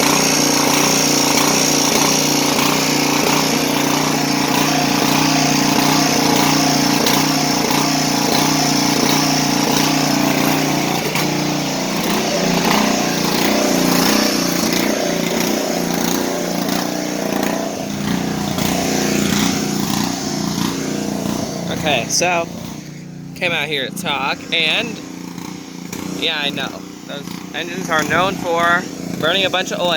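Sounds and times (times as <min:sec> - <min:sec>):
small gasoline engine running: 0:00.0 - 0:29.9.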